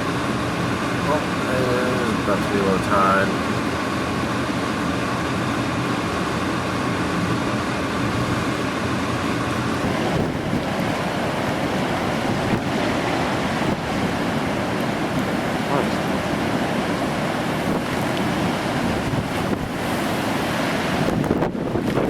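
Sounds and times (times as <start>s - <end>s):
heavy surf: 0.0s - 22.0s
wind buffeting microphone: 3.4s - 22.0s.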